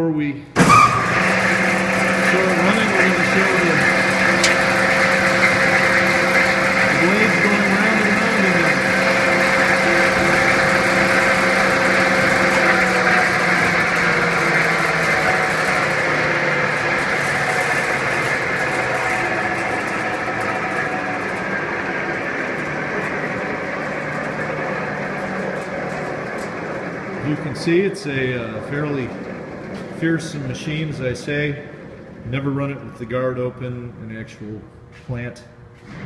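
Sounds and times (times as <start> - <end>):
garbage disposal running: 0.6 - 32.8.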